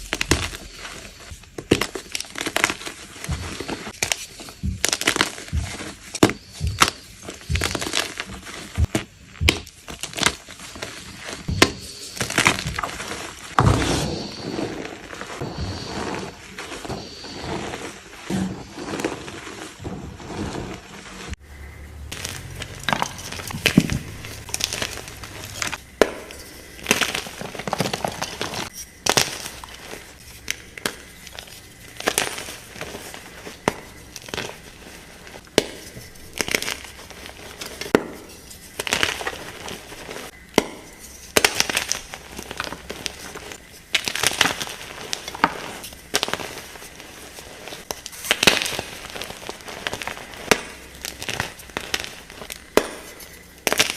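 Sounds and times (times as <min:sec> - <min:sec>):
chalk crunching in a bucket: 0:00.0 - 0:21.4, 0:22.1 - 0:53.9.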